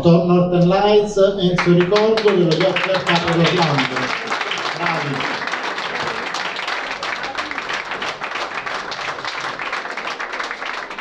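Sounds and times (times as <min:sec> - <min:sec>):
crowd applauding: 0:01.6 - 0:11.0.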